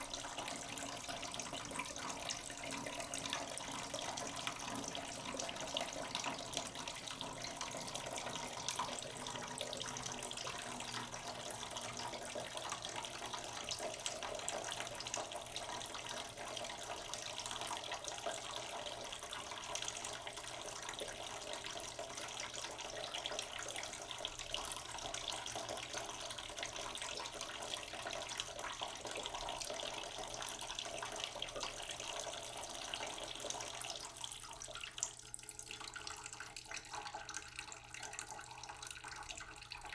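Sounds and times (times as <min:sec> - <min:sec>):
tap water filling a pot: 0:00.0 - 0:39.9.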